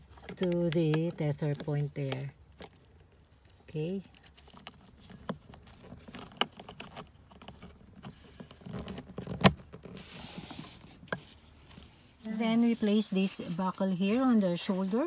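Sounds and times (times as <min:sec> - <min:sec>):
strap webbing rustling: 0:01.4 - 0:15.0.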